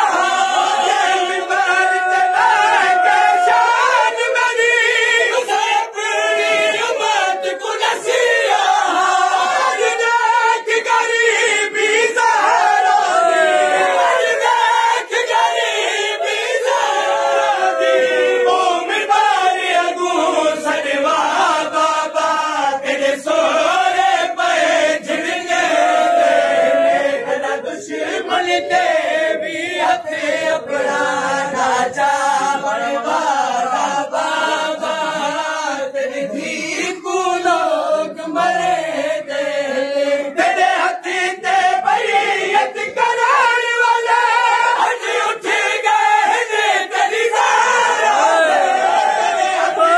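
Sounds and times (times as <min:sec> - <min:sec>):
men chanting a lament: 0:00.0 - 0:49.9.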